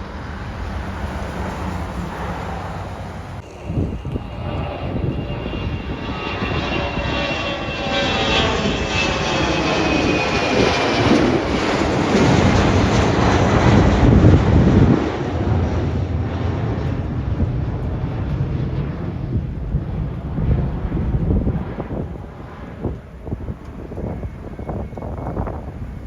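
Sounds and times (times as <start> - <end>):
jet engine whine and rumble: 0.0 - 26.0.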